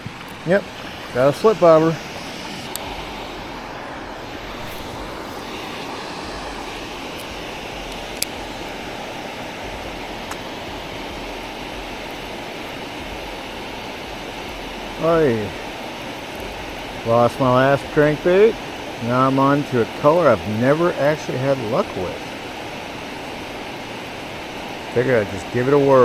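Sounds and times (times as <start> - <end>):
water rushing through spillway: 0.0 - 26.0.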